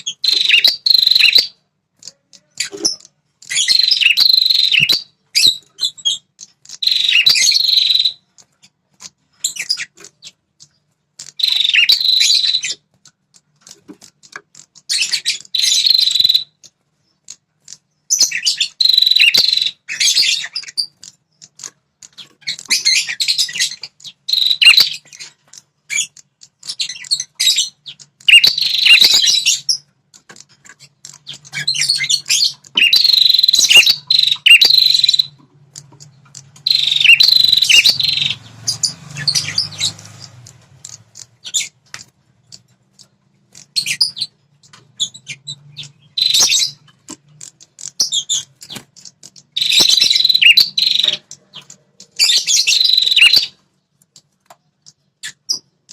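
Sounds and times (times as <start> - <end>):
warbler chattering song: 0.0 - 55.9.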